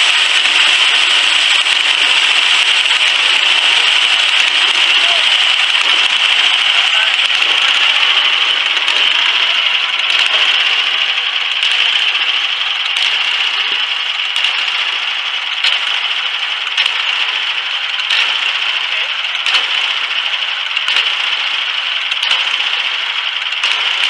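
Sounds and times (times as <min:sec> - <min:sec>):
sharp ticks: 0:00.0 - 0:24.0
small gas engine running: 0:00.0 - 0:24.0.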